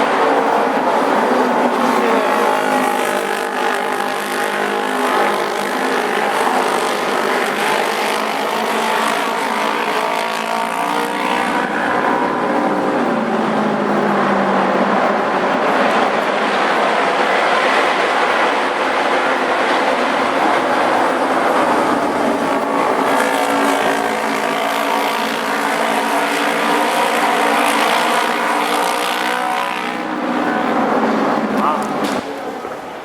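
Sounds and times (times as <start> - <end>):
racing motorcycle engines passing: 0.0 - 33.0.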